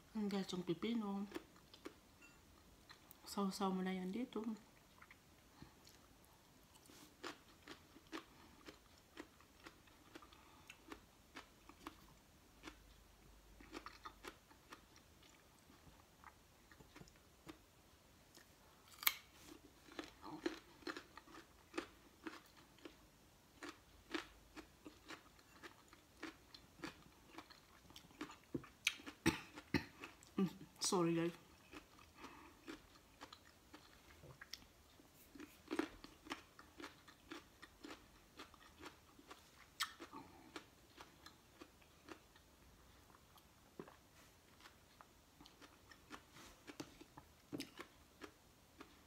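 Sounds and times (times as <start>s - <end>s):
crunchy chewing of raw vegetables: 4.6s - 17.7s, 18.3s - 30.6s, 31.3s - 49.0s.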